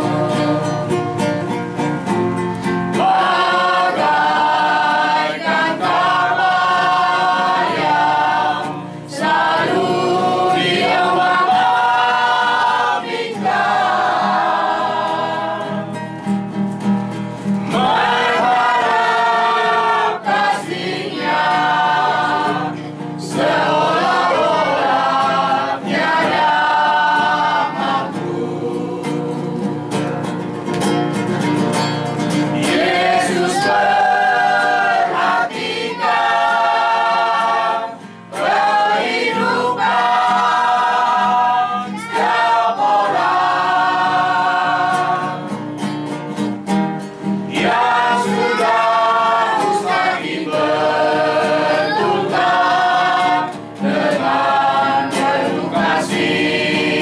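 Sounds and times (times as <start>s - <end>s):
choir singing a hymn: 0.0s - 16.5s, 17.4s - 30.4s, 32.2s - 46.6s, 47.2s - 57.0s
classical guitar: 0.0s - 57.0s.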